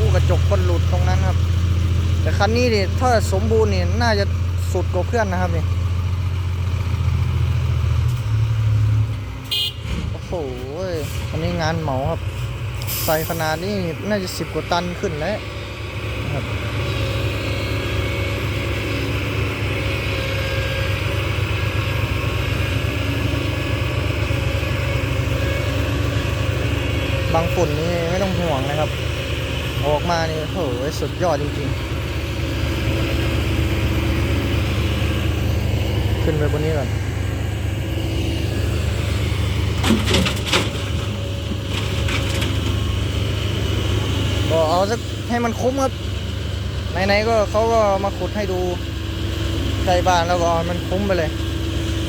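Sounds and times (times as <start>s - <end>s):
diesel truck engine droning: 0.0s - 52.0s.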